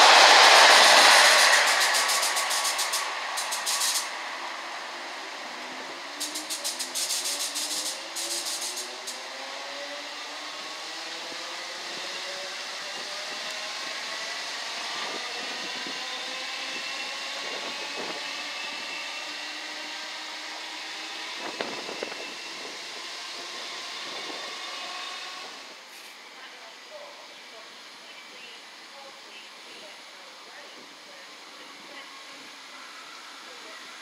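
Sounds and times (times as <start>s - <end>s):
electric train motors whining: 0.0s - 25.9s, 30.7s - 34.0s.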